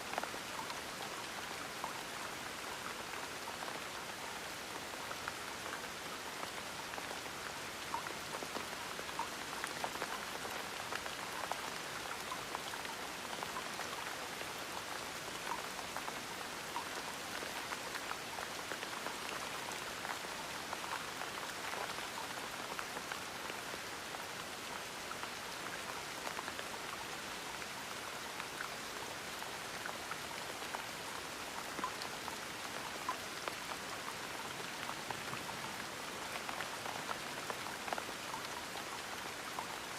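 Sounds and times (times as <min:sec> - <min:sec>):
gentle rain falling: 0:00.0 - 0:39.9
raindrops ticking on surface: 0:00.0 - 0:39.9.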